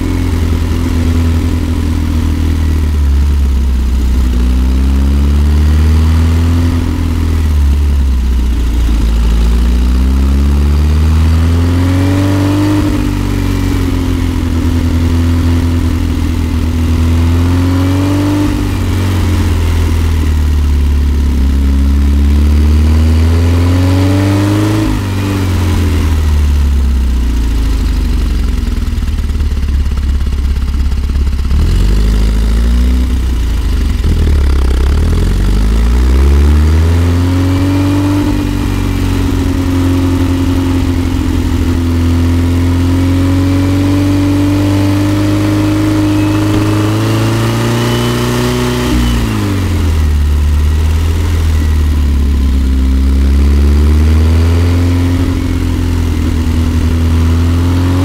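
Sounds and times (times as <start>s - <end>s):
van engine revving uphill: 0.0s - 58.0s.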